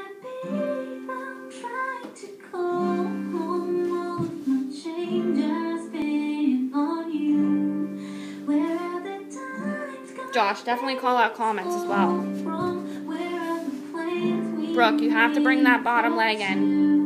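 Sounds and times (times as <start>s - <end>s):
person singing: 0.0s - 17.0s
strummed guitar chords: 0.4s - 17.0s.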